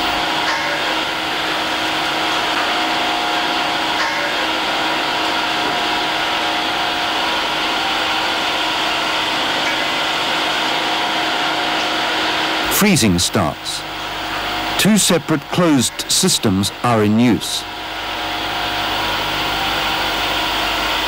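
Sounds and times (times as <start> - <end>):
machinery whirring hum: 0.0 - 21.0.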